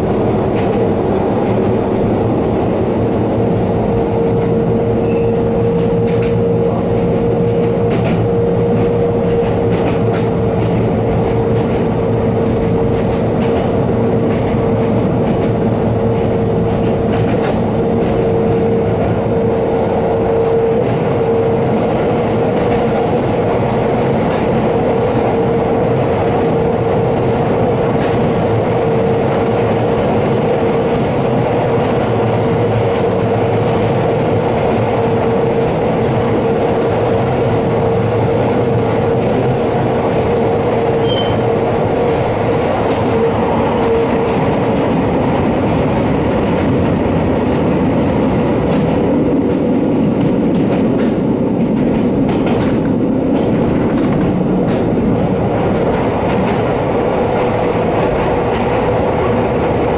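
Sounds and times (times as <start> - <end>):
electric train running noise: 0.0 - 59.9
train motor humming: 0.0 - 59.9.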